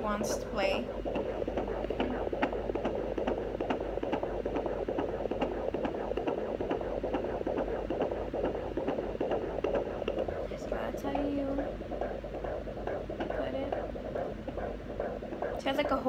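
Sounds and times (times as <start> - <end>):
fetal heartbeat whooshing pulse: 0.0 - 16.0.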